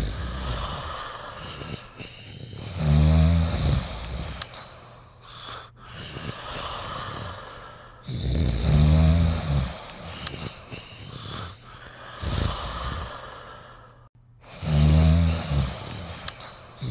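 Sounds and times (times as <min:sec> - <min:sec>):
loud low snores: 0:00.0 - 0:04.5, 0:05.3 - 0:13.7, 0:14.4 - 0:16.9
soft breathing: 0:00.0 - 0:08.3, 0:09.2 - 0:16.9.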